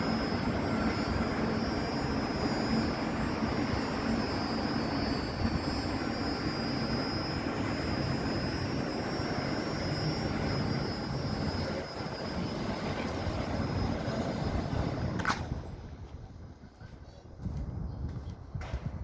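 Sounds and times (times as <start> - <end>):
faint high whine: 0.0 - 18.4
steady outdoor roar: 0.0 - 19.0.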